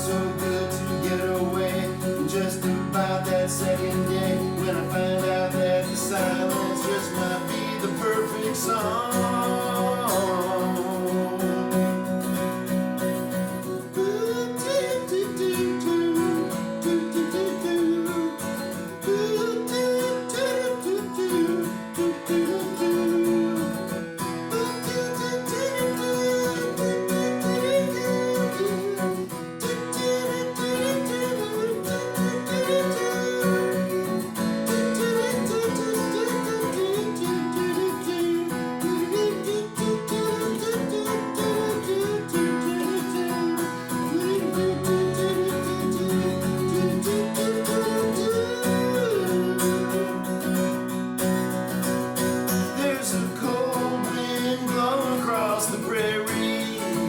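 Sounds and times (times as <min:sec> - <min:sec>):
acoustic guitar blues: 0:00.0 - 0:57.0.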